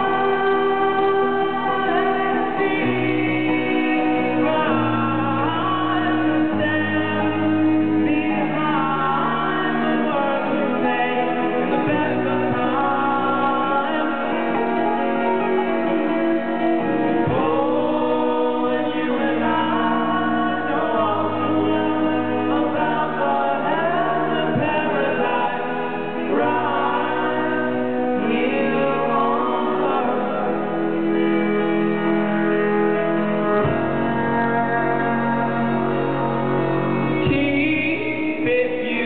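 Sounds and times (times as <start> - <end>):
acoustic guitar: 0.0 - 39.0
cello: 0.0 - 39.0
upright bass: 0.0 - 39.0
voices singing in harmony: 0.0 - 39.0.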